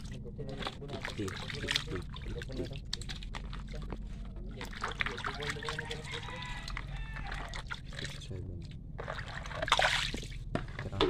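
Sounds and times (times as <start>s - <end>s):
water splashing in plastic basin: 0.0s - 4.0s, 4.6s - 8.4s, 9.0s - 11.0s.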